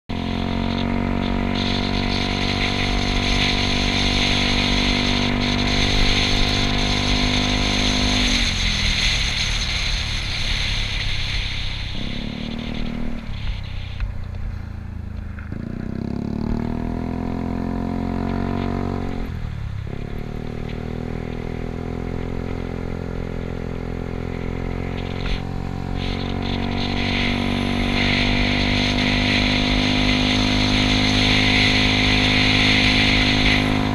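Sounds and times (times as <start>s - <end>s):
rushing wind: 0.1s - 33.9s
scooter engine running: 0.1s - 33.9s.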